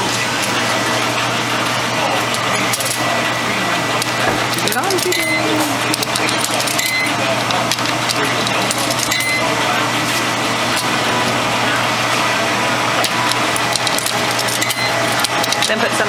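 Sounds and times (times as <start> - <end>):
faint voices: 0.0 - 16.0
washing machines and dryers running: 0.0 - 16.0.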